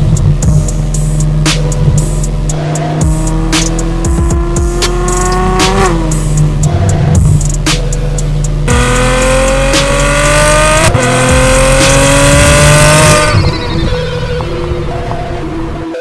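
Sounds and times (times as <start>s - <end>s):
exhaust cracks: 0.0s - 15.8s
sports car engine accelerating: 0.0s - 16.0s.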